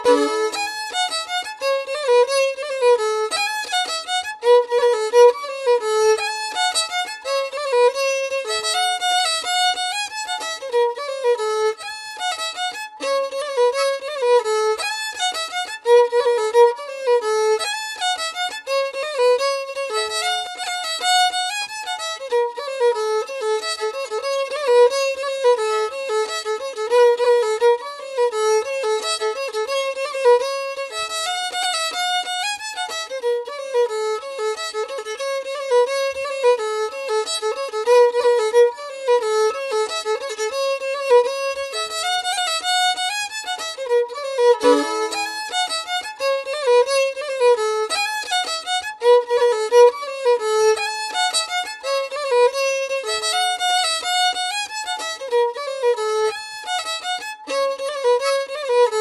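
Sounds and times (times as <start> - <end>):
solo violin melody: 0.0 - 59.0.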